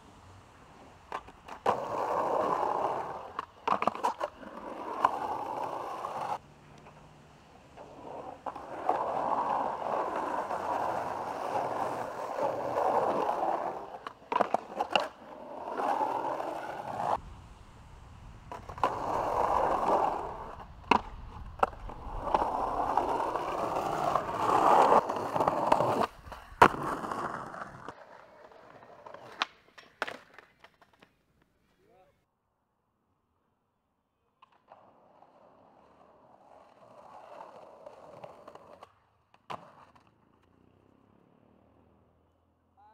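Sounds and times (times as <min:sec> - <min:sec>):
skateboard wheels rolling on rough ground: 0:00.0 - 0:31.7, 0:34.4 - 0:42.4
skateboard clacks: 0:00.7 - 0:07.1, 0:07.7 - 0:17.2, 0:18.5 - 0:31.6, 0:34.4 - 0:40.7.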